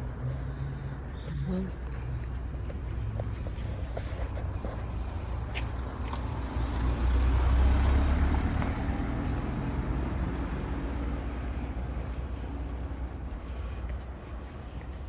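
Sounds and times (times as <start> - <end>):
vehicle passing rumble: 0.0 - 15.0.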